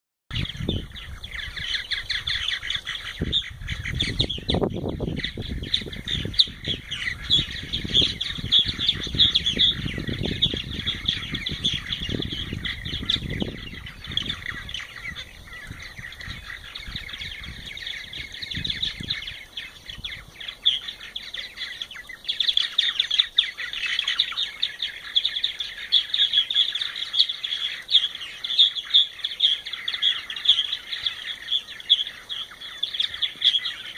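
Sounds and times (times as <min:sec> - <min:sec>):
birds chattering and singing: 0:00.3 - 0:33.9.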